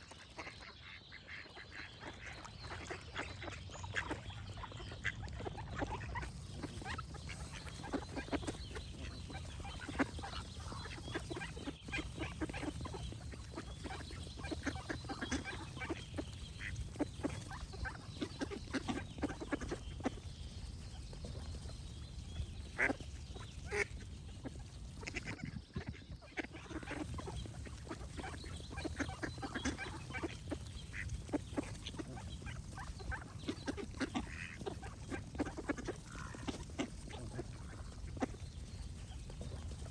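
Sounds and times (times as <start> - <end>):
birds singing: 0.0 - 39.9
ducks quacking: 0.0 - 39.9.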